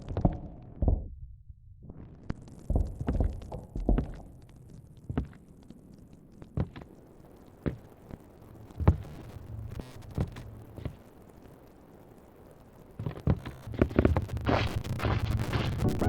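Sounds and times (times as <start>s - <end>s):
wood fire crackling: 1.9s - 16.0s
burning logs popping and knocking: 2.2s - 16.0s.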